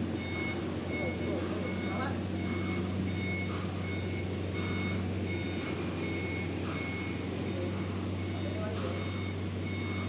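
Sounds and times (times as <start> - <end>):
engine droning: 0.0 - 10.0
reversing alarm beeping: 0.0 - 10.0.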